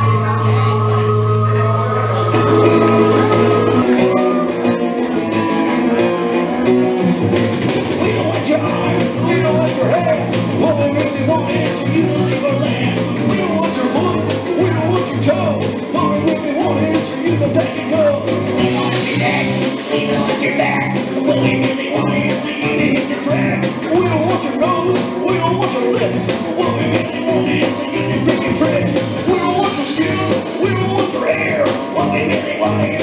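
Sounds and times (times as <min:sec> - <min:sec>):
bass guitar: 0:00.0 - 0:33.0
drum kit beat: 0:00.0 - 0:33.0
electric guitar: 0:00.0 - 0:33.0.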